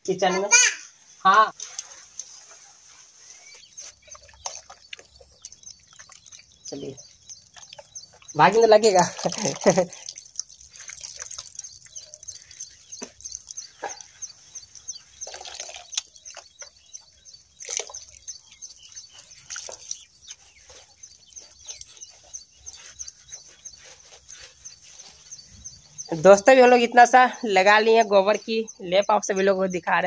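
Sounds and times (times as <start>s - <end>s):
steady high chirping: 1.9s - 30.0s.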